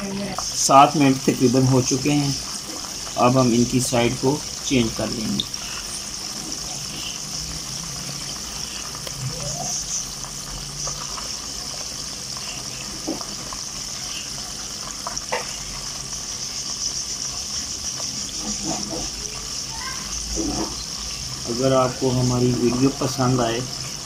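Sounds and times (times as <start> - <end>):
spatula turning food: 0.0 - 15.9, 17.9 - 21.3
chicken deep-frying in oil: 0.0 - 24.0.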